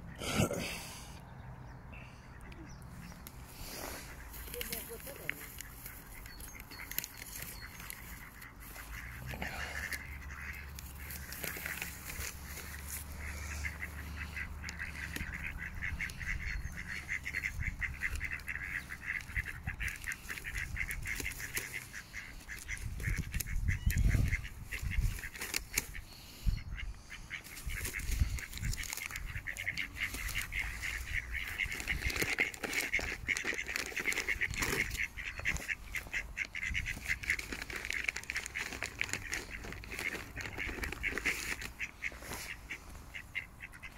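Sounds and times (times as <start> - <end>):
ducks quacking: 0.0 - 43.9.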